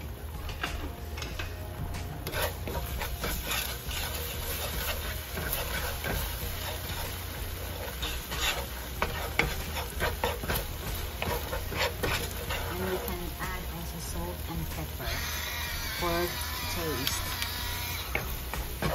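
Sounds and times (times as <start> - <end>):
oil sizzling: 0.0 - 18.9
spatula scraping frying pan: 0.4 - 13.8, 15.0 - 18.9.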